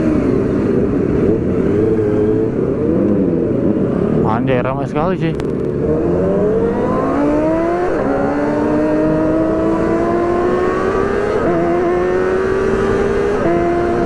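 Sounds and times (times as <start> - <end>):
motorcycle engine: 0.0 - 4.7, 5.3 - 14.0
road rumble: 0.0 - 14.0
wind: 0.0 - 14.0.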